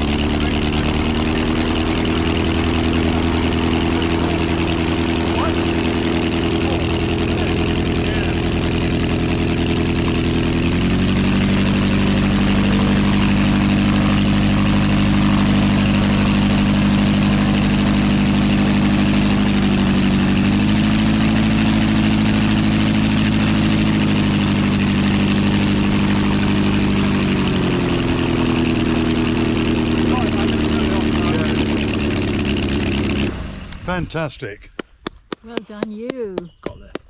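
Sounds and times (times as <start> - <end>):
aero engine running: 0.0 - 37.0.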